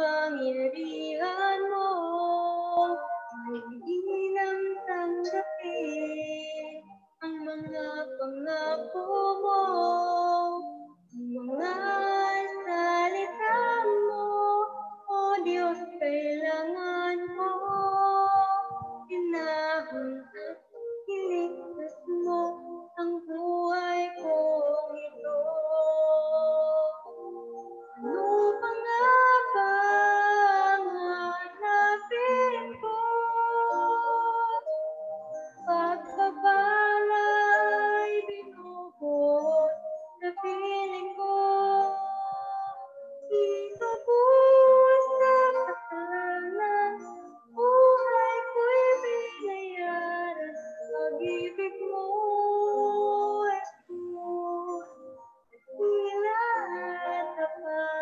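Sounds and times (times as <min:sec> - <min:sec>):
woman singing slow song: 0:00.0 - 0:58.0.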